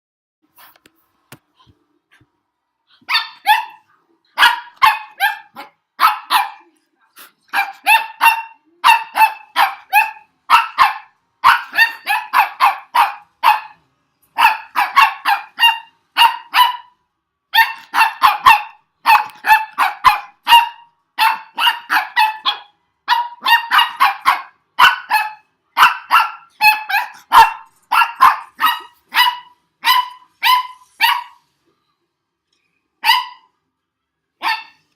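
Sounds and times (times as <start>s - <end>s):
puppy barking: 3.0s - 6.7s, 7.5s - 13.8s, 14.4s - 31.4s, 33.0s - 33.5s, 34.4s - 34.9s.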